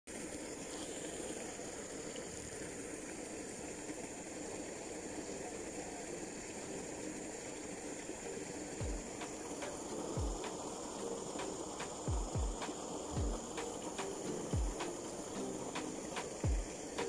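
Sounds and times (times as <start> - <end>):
outdoor background hiss: 0.1 - 17.0.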